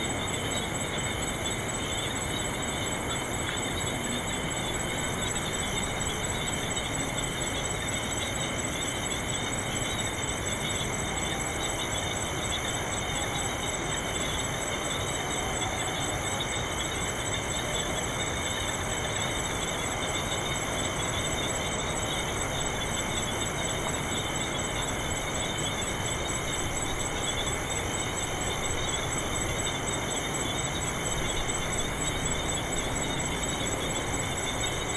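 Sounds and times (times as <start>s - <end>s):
fast pulsing insect trill: 0.0s - 34.9s
insects trilling: 0.0s - 34.9s.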